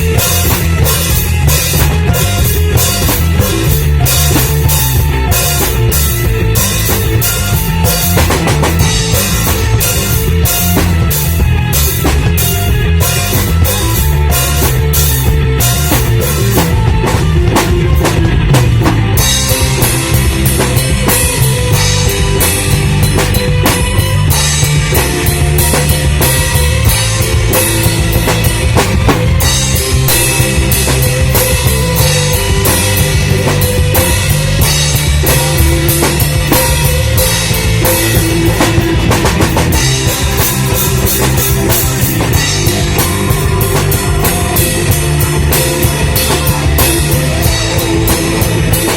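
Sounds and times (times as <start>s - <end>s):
bass drum: 0.0s - 48.9s
loud rock music: 0.0s - 48.9s.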